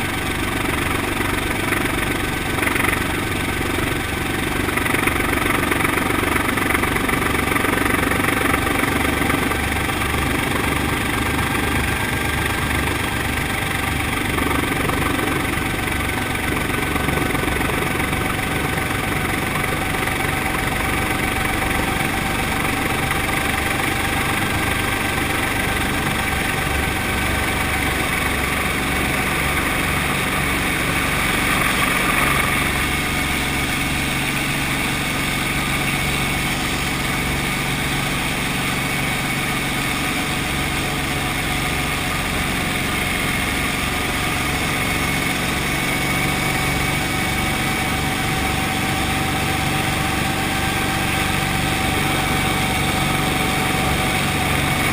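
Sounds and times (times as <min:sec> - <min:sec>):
helicopter engine and rotor running: 0:00.0 - 0:54.9.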